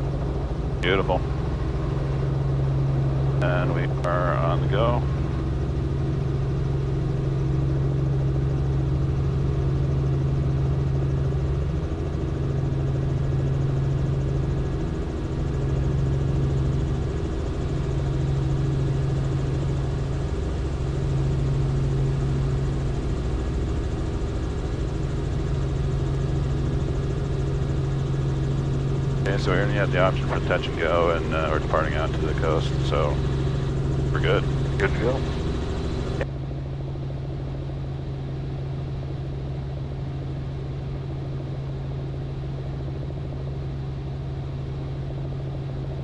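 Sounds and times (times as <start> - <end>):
helicopter engine and rotor drone: 0.0 - 46.0.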